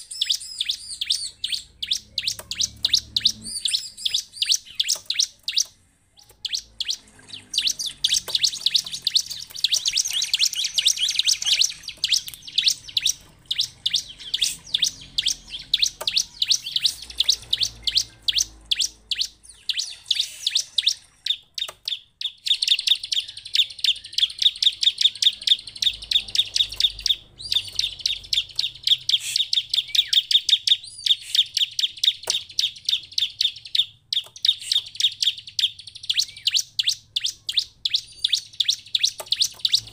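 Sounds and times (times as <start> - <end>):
bird chirping in fast runs: 0.0 - 39.9.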